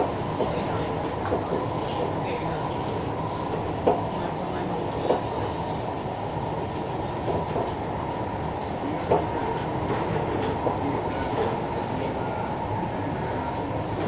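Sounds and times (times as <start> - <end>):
metro train rumbling: 0.0 - 14.0.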